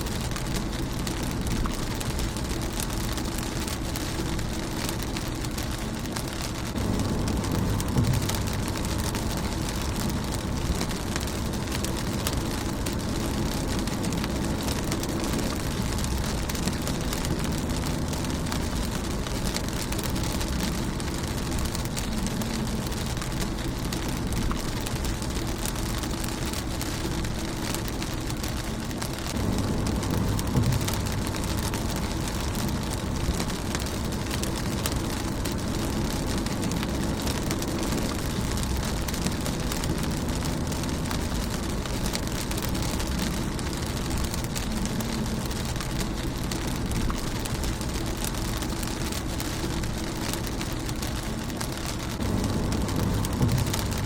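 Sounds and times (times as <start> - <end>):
low rumble: 0.0 - 54.0
rain pattering on a car: 0.0 - 54.0.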